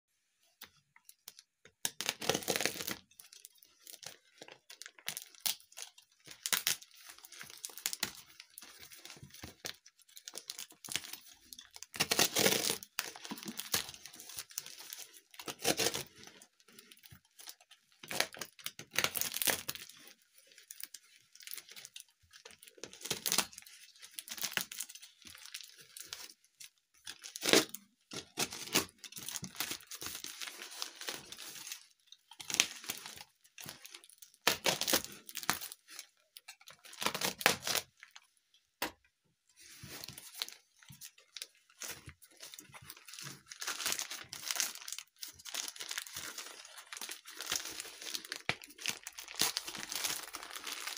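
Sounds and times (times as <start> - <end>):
plastic tearing and crinkling: 0.7 - 38.4, 39.6 - 50.9
plastic rustling: 2.1 - 38.4, 39.5 - 50.9.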